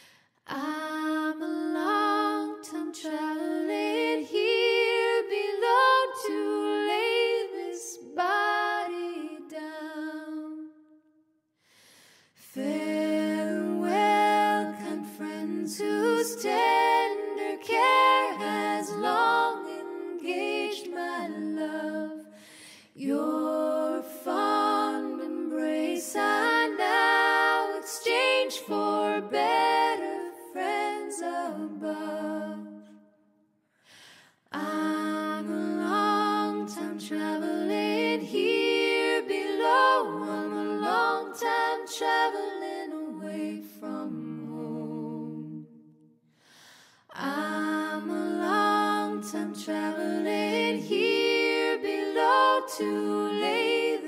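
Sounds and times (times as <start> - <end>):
women singing a cappella: 0.0 - 11.0, 12.4 - 33.2, 33.9 - 54.0.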